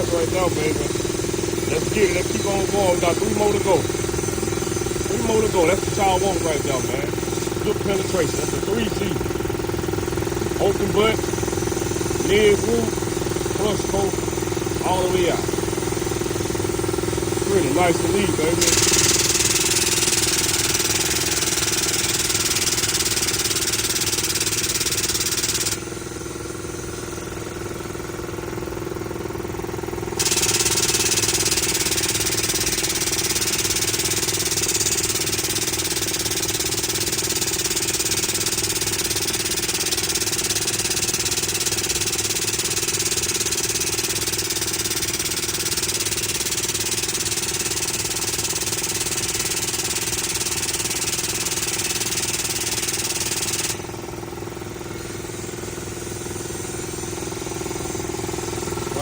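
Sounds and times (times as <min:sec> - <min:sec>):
loud machinery hiss: 0:00.0 - 0:27.1, 0:30.2 - 0:59.0
engine running: 0:00.0 - 0:59.0.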